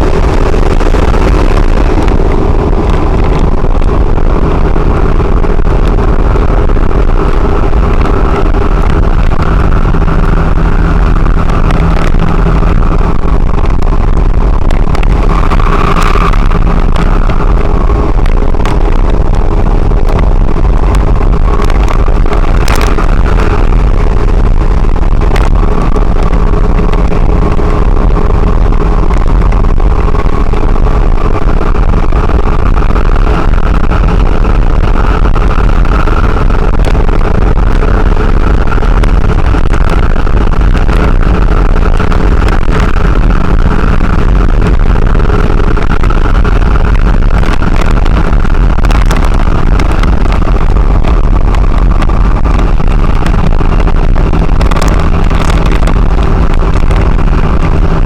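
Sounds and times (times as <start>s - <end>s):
lorry engine and road noise: 0.0s - 58.0s.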